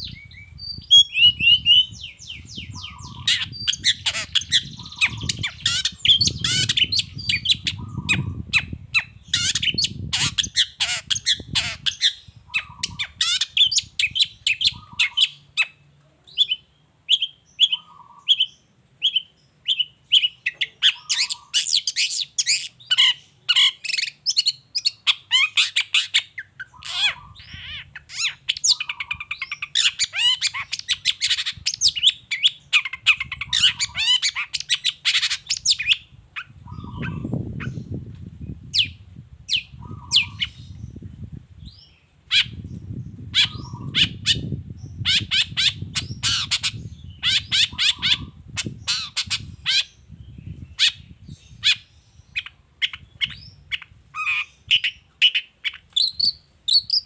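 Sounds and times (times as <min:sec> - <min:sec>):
bird chattering song: 0:00.0 - 0:38.0, 0:38.7 - 0:57.0.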